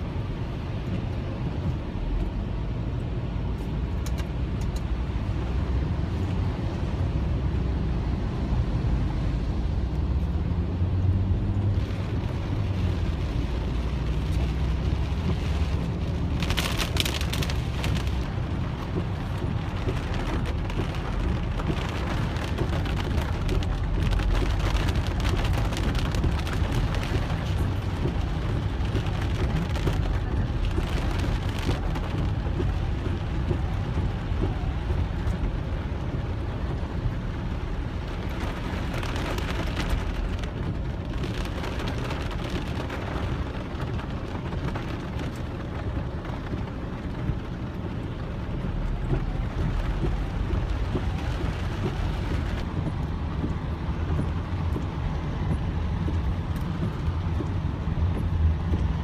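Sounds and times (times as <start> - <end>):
car rumbling on wet road: 0.0 - 59.0
rain pattering on car roof: 0.0 - 59.0.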